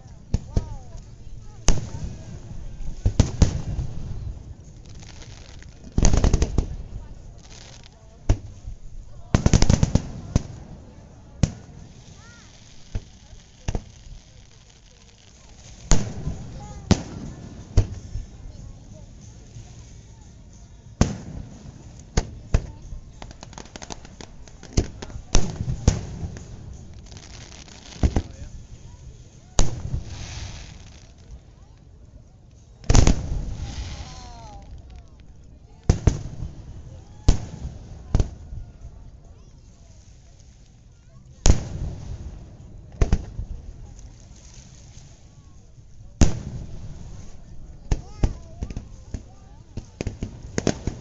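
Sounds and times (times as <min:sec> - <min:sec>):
firework cracks: 0:00.0 - 0:08.7, 0:09.3 - 0:19.9, 0:21.0 - 0:31.5, 0:32.8 - 0:38.5, 0:39.8 - 0:45.4, 0:46.2 - 0:51.0.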